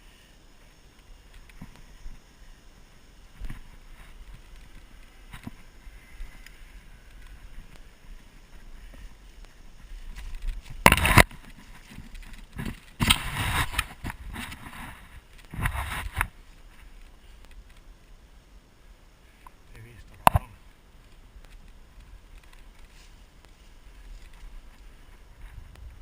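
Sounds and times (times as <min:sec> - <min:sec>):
low outdoor background: 0:00.0 - 0:26.0.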